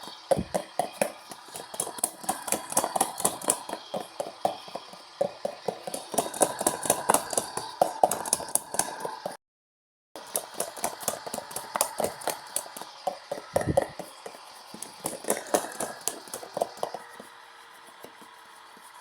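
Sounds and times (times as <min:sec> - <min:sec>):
faint washing machine hum: 0:00.0 - 0:09.4, 0:10.2 - 0:19.0
rapid uneven clicking and knocking: 0:00.0 - 0:09.4, 0:10.2 - 0:19.0.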